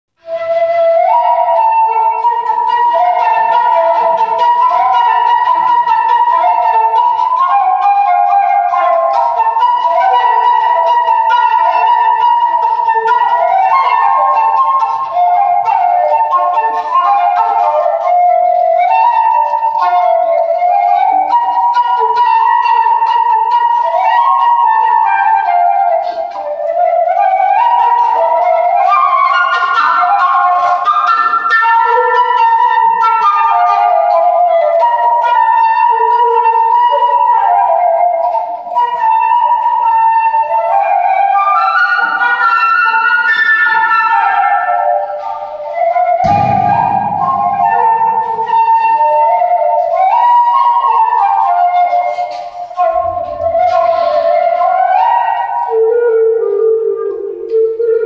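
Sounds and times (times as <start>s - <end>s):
solo flute melody: 0.2s - 58.0s.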